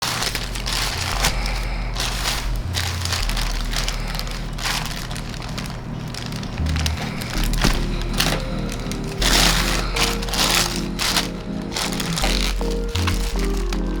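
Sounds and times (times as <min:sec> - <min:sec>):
packaging crinkling and crushing: 0:00.0 - 0:14.0
music with low bass line: 0:00.3 - 0:14.0.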